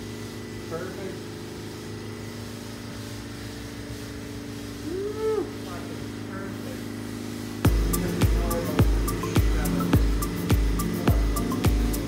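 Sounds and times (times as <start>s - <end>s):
machine droning hum: 0.0s - 12.0s.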